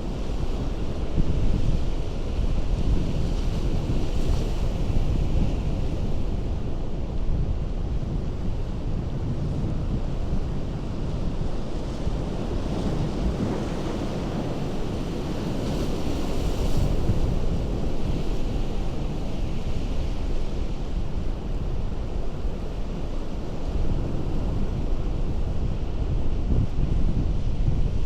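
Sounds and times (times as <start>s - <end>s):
ocean surf on rocky shore: 0.0s - 28.0s.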